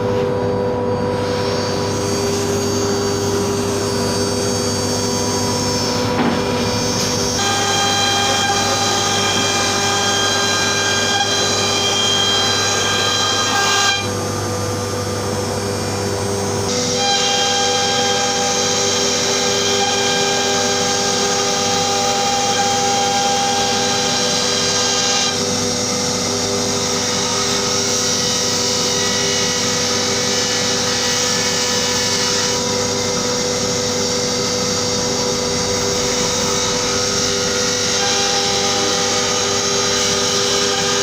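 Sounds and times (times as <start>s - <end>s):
router spindle whining: 0.6s - 41.0s
cutting plywood: 1.1s - 41.0s.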